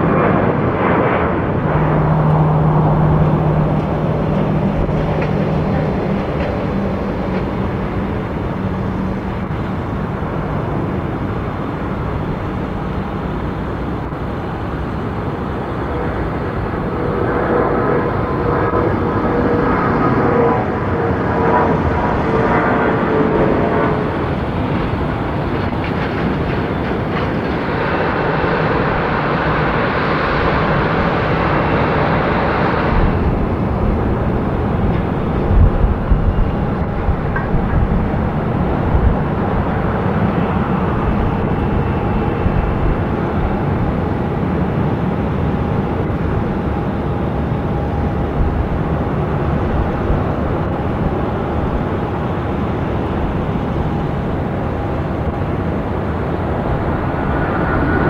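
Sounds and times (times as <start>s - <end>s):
faint engine whine: 0.0s - 58.0s
jet engines rumbling: 0.0s - 58.0s.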